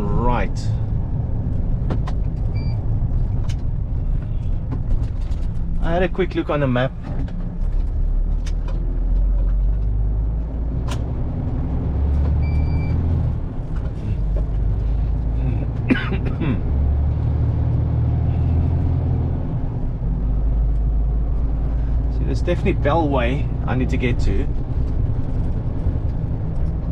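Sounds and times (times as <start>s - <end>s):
diesel truck engine running: 0.0s - 26.9s.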